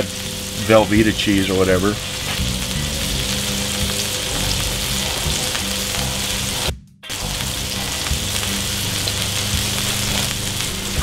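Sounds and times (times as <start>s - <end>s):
meat and onions sizzling on a griddle: 0.0s - 11.0s.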